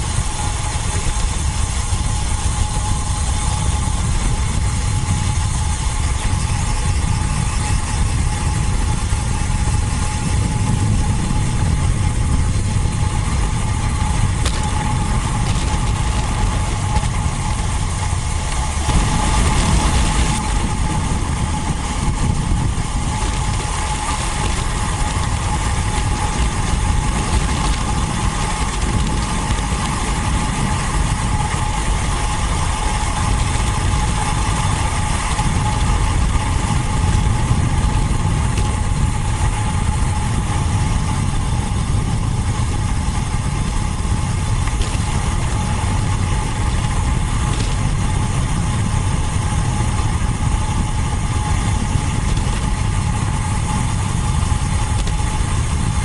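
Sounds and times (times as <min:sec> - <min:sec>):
high whine: 0:00.0 - 0:56.0
wind buffeting microphone: 0:00.0 - 0:56.0.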